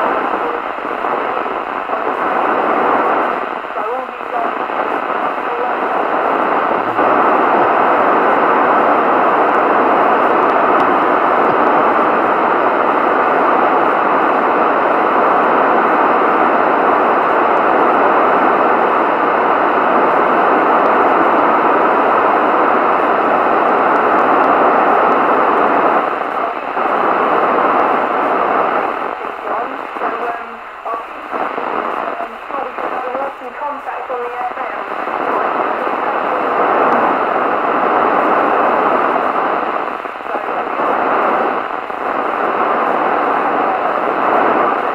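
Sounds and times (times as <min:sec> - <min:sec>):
radio static hiss: 0:00.0 - 0:44.9.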